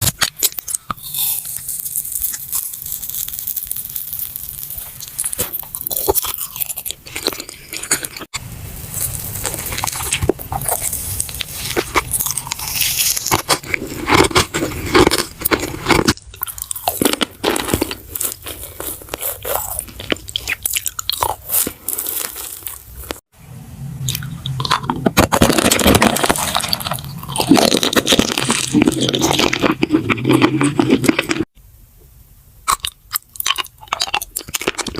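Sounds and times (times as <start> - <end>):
crunchy food chewing: 0.0 - 23.3, 24.1 - 31.5, 32.7 - 34.9.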